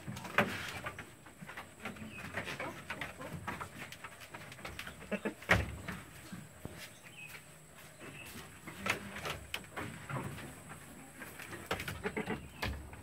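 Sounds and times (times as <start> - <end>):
goats shuffling on wooden floor: 0.0 - 13.0.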